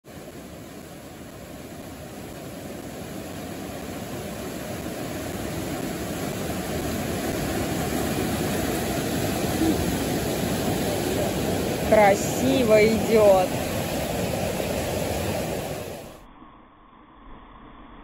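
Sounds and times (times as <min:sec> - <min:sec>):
water rushing over rocks: 0:00.0 - 0:16.2.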